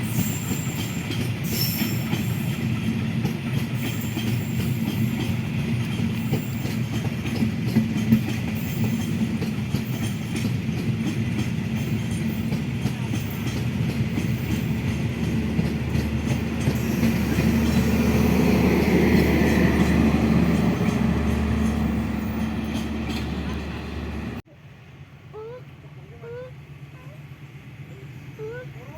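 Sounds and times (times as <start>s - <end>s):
train wheels rumbling: 0.0s - 24.4s.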